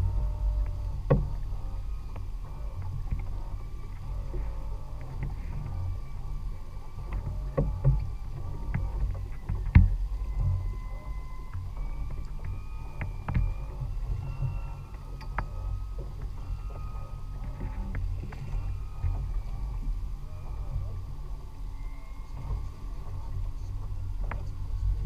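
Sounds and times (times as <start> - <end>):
boat engine rumble: 0.0 - 25.0
faint wavering high whine: 0.0 - 25.0.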